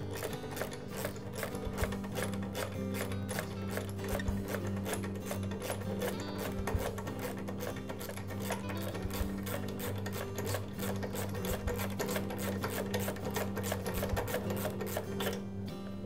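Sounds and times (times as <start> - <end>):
ratchet wrench clicking: 0.0 - 15.4
background music with low notes: 0.0 - 16.0.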